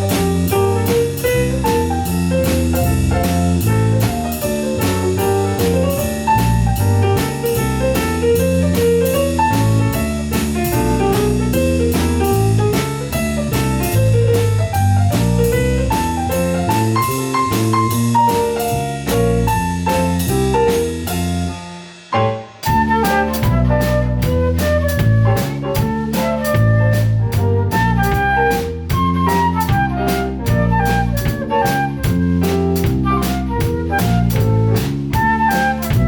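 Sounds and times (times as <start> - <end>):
bass line: 0.0 - 36.0
drum kit beat: 0.0 - 36.0
piano chords: 0.0 - 36.0.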